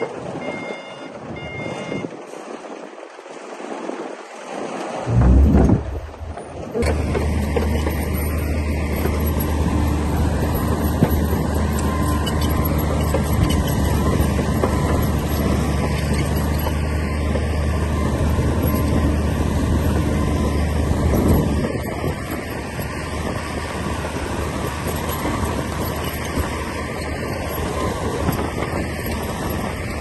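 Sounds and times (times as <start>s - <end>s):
bulldozer diesel engine running: 5.1s - 30.0s.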